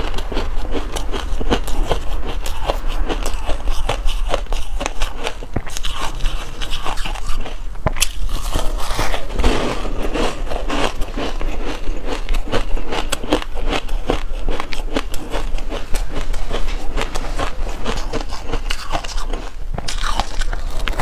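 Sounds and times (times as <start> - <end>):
ice crunching while chewed: 0.0 - 21.0.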